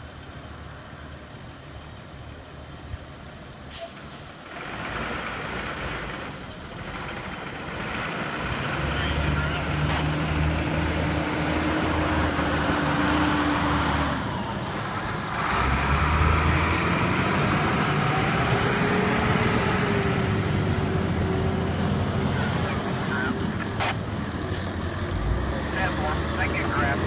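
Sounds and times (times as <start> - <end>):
diesel truck engines pulling out: 0.0 - 27.0.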